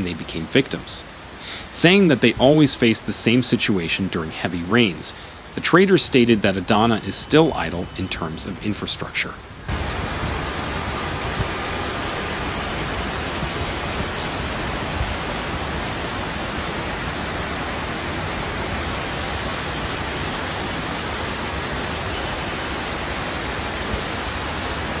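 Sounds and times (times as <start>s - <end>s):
rushing water from heavy rain: 0.0s - 25.0s.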